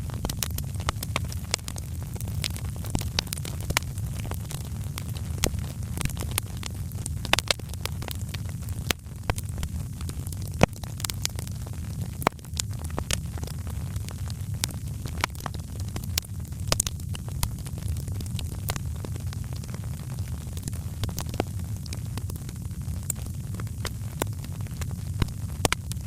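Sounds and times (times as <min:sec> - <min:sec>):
fire crackling: 0:00.0 - 0:26.0
steady low rumble: 0:00.0 - 0:26.0
sharp pops from fire: 0:00.1 - 0:26.0.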